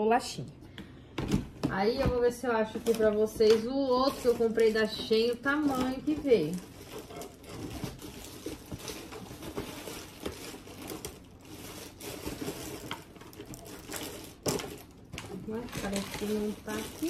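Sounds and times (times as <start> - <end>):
plastic bags rustling: 1.3 - 17.0.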